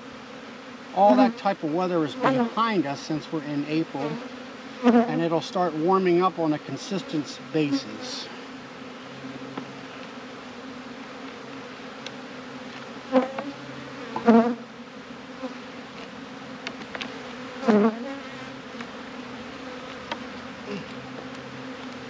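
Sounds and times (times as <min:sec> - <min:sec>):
hum of many bees: 0:00.0 - 0:22.0
single bee flying close past: 0:00.1 - 0:05.4, 0:06.2 - 0:22.0.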